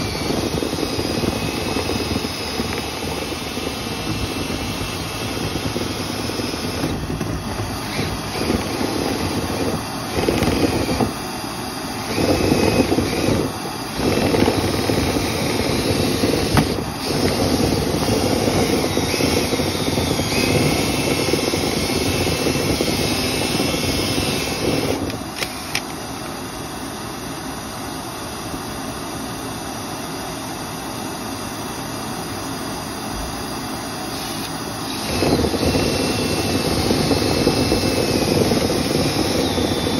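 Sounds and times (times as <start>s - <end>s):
dryer vent cleaner rushing air: 0.0s - 39.9s.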